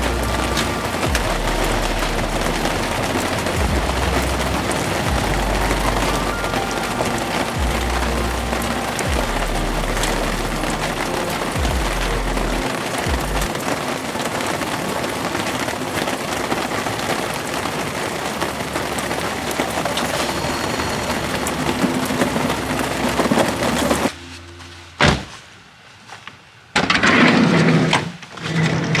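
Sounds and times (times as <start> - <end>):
campfire crackling and popping: 0.0 - 24.1
loud noisy bursts: 0.0 - 24.2.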